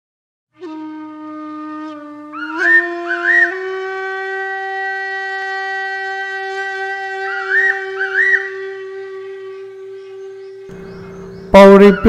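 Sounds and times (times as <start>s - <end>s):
woodwind holding a long note: 0.5s - 10.8s
woodwind ornamental flourishes: 0.6s - 10.7s.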